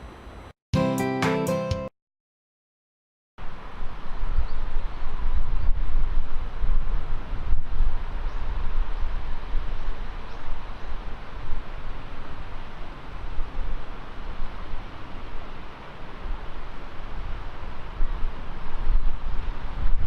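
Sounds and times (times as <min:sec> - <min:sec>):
wind buffeting microphone: 0:03.5 - 0:20.0.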